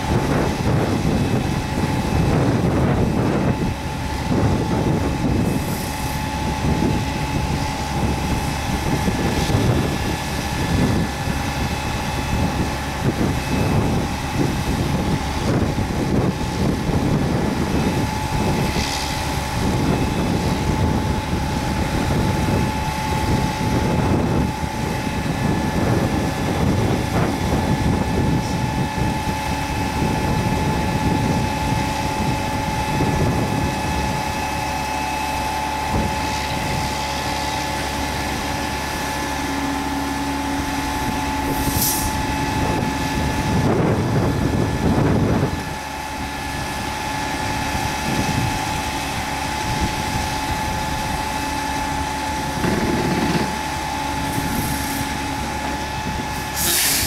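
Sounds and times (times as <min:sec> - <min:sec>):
diesel engine under load: 0:00.0 - 0:57.0
hydraulic arm whine: 0:00.0 - 0:57.0.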